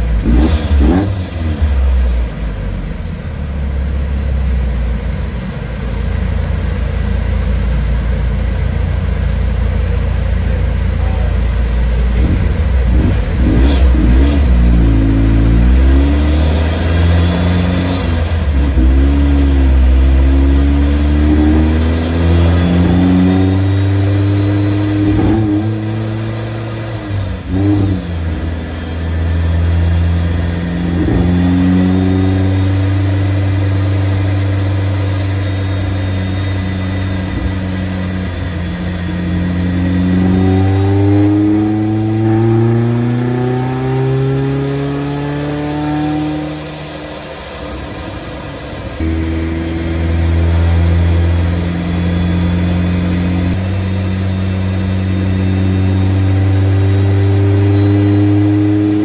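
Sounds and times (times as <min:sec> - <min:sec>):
car engine revving on dyno: 0:00.0 - 0:04.4, 0:09.4 - 0:59.0
supercharger whine: 0:00.0 - 0:59.0.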